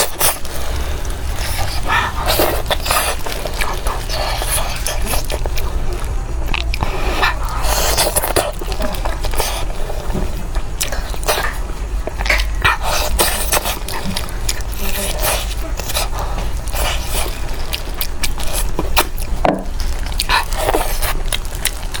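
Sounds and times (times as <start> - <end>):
person eating with wet chewing: 0.0 - 22.0.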